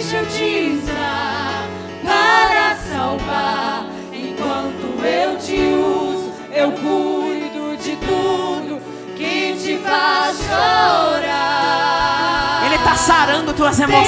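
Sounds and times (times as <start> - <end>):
women singing worship song: 0.0 - 14.0.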